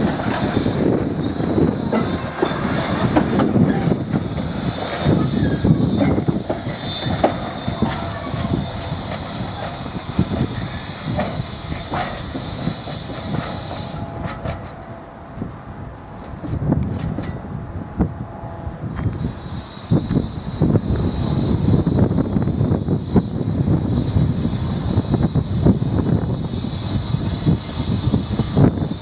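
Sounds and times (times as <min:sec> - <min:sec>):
high-pitched wheel squeal: 0:00.0 - 0:14.8, 0:18.8 - 0:29.0
train wheels rumbling and clicking: 0:00.0 - 0:29.0.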